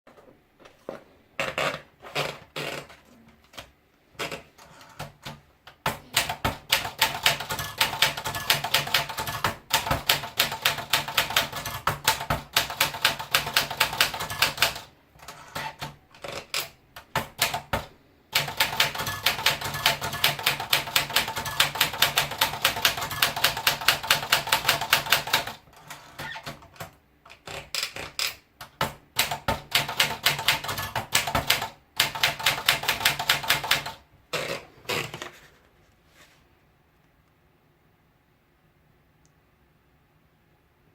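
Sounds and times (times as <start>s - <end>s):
manual typewriter typing: 1.5s - 35.1s.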